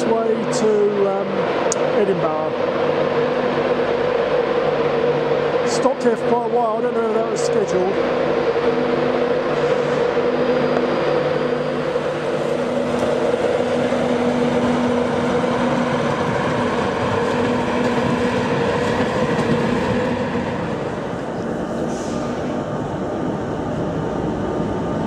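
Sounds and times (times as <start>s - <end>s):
train humming: 0.0s - 25.0s.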